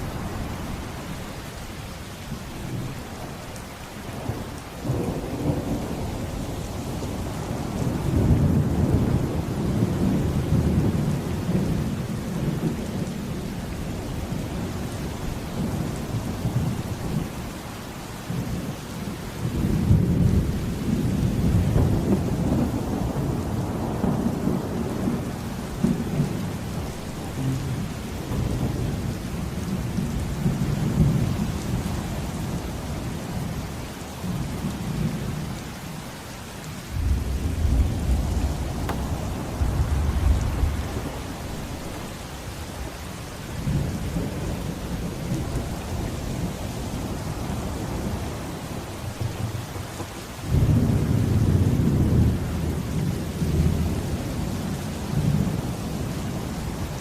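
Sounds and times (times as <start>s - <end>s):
heavy rain falling: 0.0s - 57.0s
rolling thunder: 2.4s - 18.7s, 19.4s - 32.6s, 36.9s - 57.0s.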